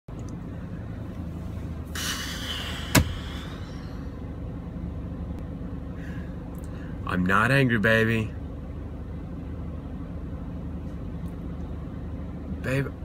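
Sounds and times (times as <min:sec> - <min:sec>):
car engine hum: 0:00.1 - 0:13.0.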